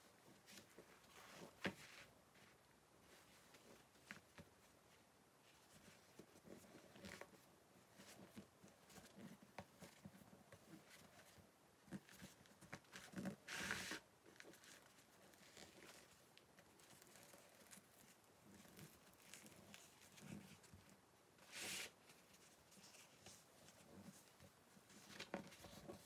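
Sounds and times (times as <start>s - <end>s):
fabric rustling and rubbing: 0.0s - 26.0s.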